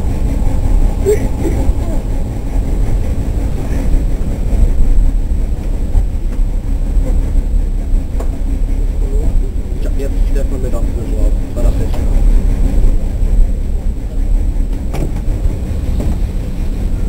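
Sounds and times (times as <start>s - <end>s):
train engine rumbling: 0.0s - 17.0s.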